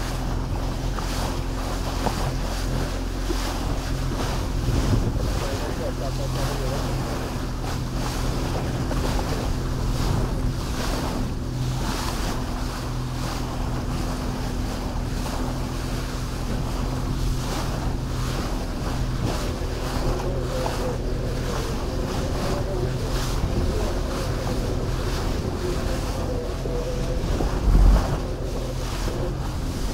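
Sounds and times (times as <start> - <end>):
motorboat engine drone: 0.0 - 29.9
water rushing along hull: 0.0 - 29.9
wind buffeting microphone: 0.0 - 29.9.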